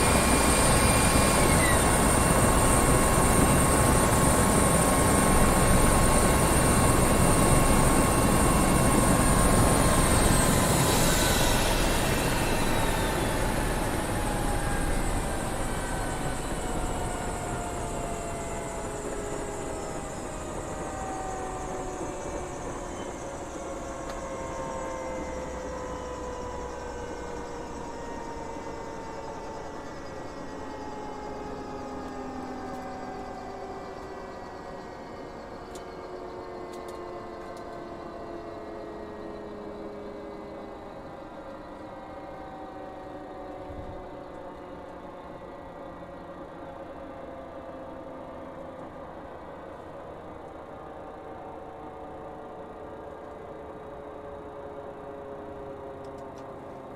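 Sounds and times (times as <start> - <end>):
helicopter rotor and turbine: 0.0 - 56.9.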